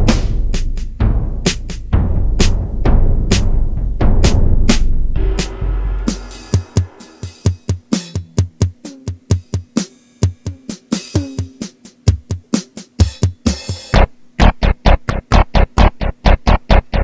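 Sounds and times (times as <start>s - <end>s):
electronic drum pattern: 0.0s - 17.0s.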